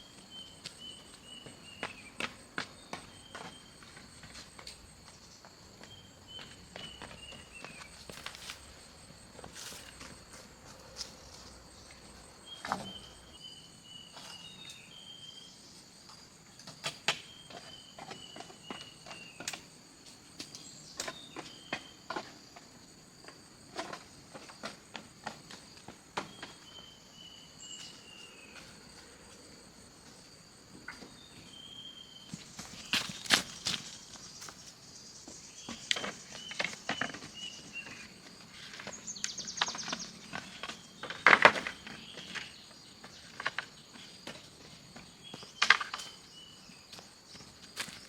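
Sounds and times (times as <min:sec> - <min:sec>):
high-pitched insect chorus: 0:00.0 - 0:48.0.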